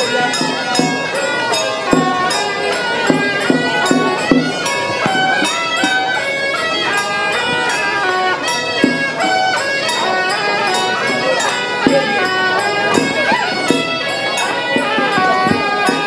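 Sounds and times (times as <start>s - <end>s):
shawm playing nasal melody: 0.0s - 16.0s
drum strikes: 0.1s - 16.0s.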